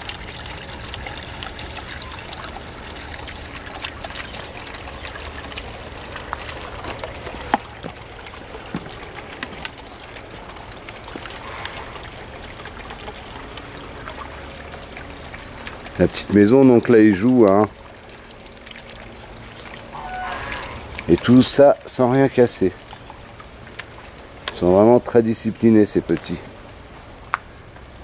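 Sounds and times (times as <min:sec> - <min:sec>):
fountain trickling and splashing: 0:00.0 - 0:28.0.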